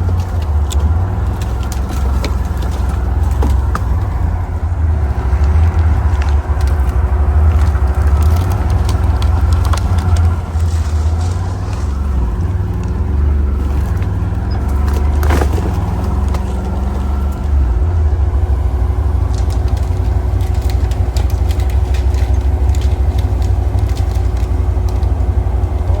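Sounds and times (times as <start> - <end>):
off-road vehicle engine rumbling: 0.0 - 26.0.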